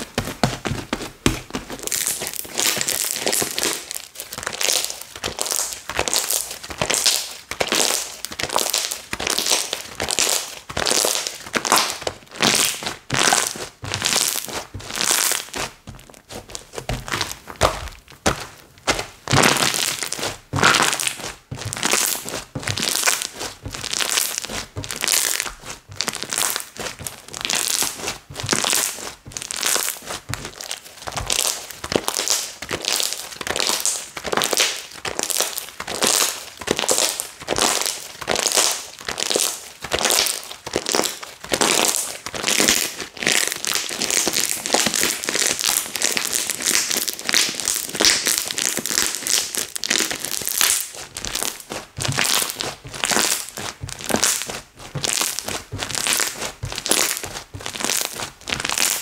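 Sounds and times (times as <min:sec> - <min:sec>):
slime squishing with crackling pops: 0:00.0 - 0:59.0.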